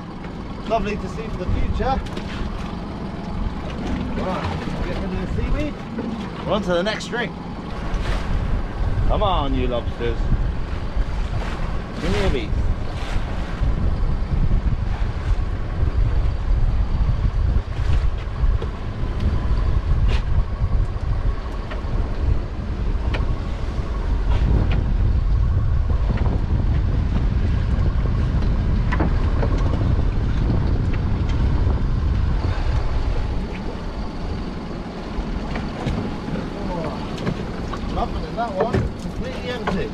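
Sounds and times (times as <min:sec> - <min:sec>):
faint engine hum: 0:00.0 - 0:39.9
wind buffeting microphone: 0:00.0 - 0:39.9.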